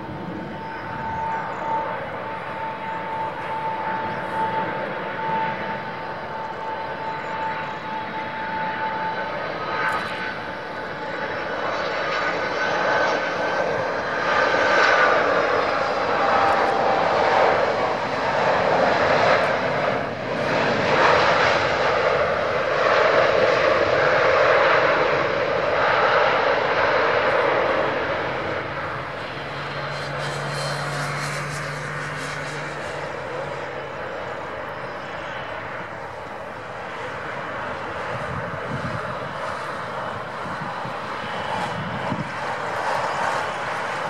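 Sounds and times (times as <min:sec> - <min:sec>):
jet engine whine: 0:00.0 - 0:44.0
jet landing roar: 0:00.0 - 0:44.0.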